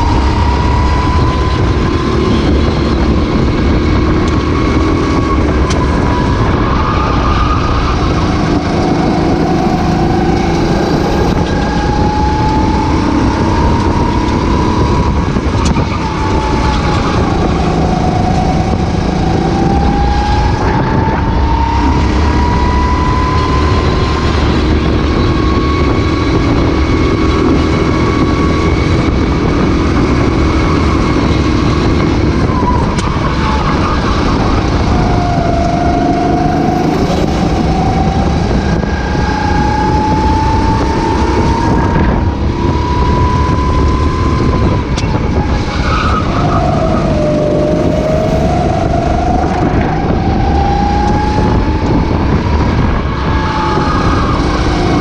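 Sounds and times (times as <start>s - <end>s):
go-kart engine accelerating: 0.0s - 55.0s.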